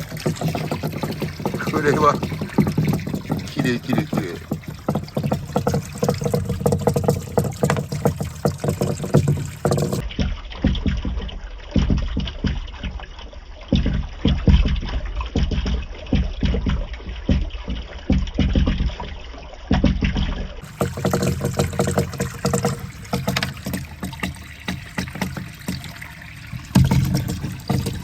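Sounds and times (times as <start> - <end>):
balls knocking along bamboo: 0.0 - 28.0
water running down bamboo track: 0.0 - 28.0.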